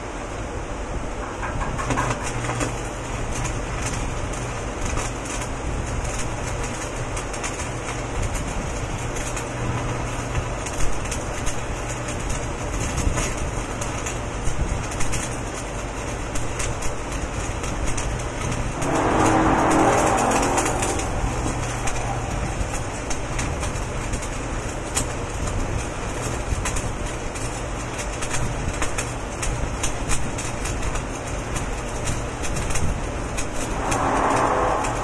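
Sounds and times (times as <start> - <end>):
constant low hum: 0.0 - 35.0
arc welding crackling sizzle: 1.4 - 35.0.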